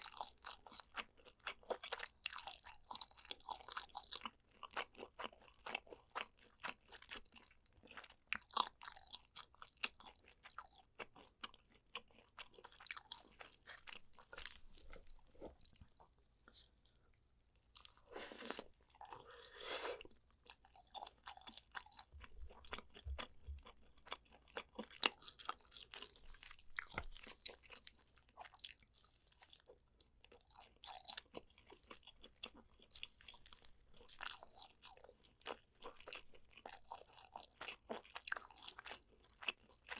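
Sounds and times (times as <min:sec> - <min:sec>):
person chewing and biting: 0:00.0 - 0:16.7, 0:17.8 - 0:39.9.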